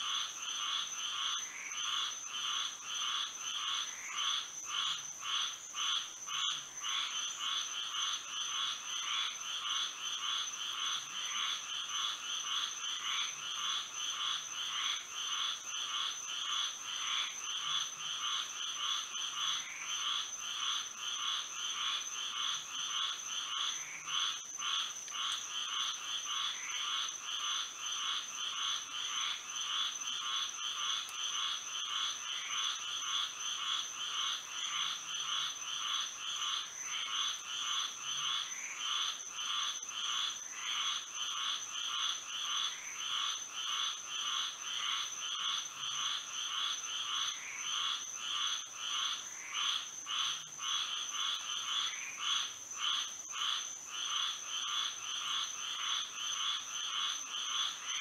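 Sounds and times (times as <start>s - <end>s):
frogs calling: 0.0s - 58.0s.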